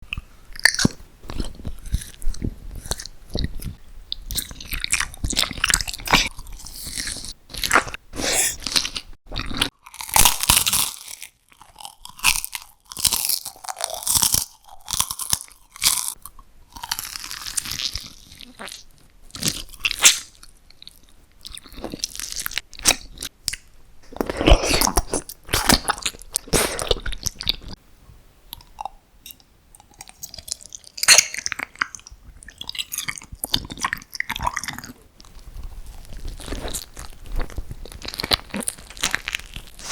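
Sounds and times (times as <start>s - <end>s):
crisp crunching and chewing: 0.1s - 27.8s, 28.5s - 39.9s.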